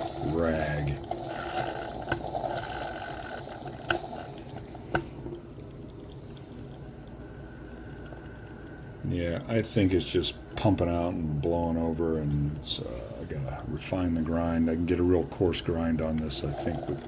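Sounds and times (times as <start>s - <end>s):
coffee maker water gurgling: 0.0s - 17.0s.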